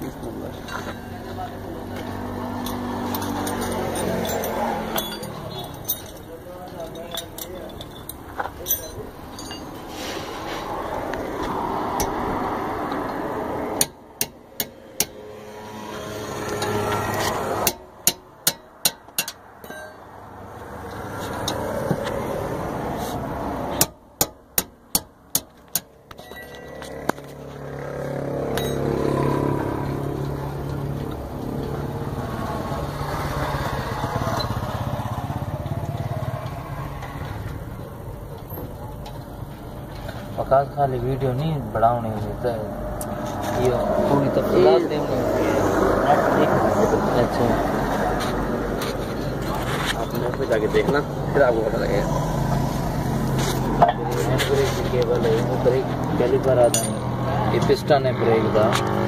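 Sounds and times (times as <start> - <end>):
passing vehicles: 0.0 - 59.0.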